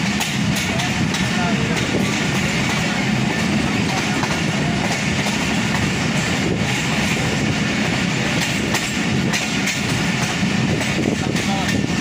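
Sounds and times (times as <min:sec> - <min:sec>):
train wheels rumbling on rail: 0:00.0 - 0:12.0
wheels clacking over rail joints: 0:00.0 - 0:12.0.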